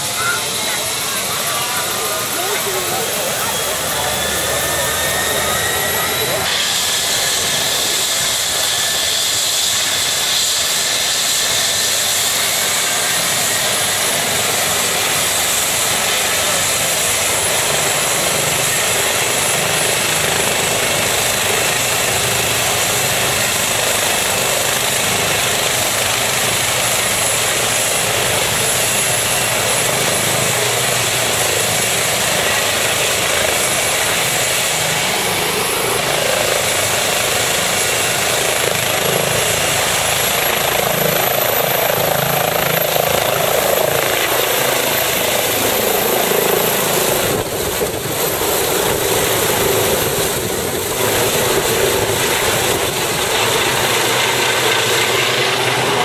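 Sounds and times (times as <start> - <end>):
helicopter rotor and turbine whine: 0.0 - 56.0.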